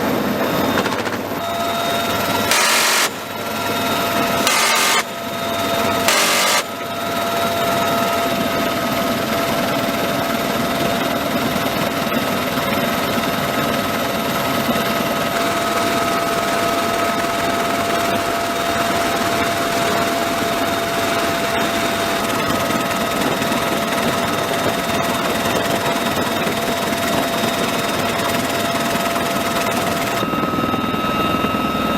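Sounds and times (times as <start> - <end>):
helicopter rotor and engine noise: 0.0 - 31.9
helicopter turbine whine: 0.0 - 31.9.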